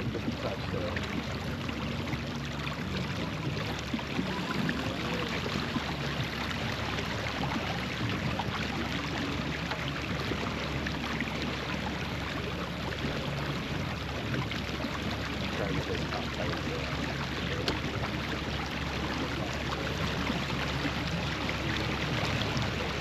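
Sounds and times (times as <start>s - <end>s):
water rushing: 0.0s - 23.0s
wind: 0.0s - 23.0s.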